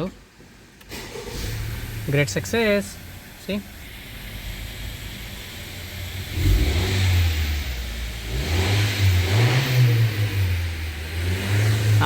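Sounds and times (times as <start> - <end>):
car engine revving: 0.9 - 12.0.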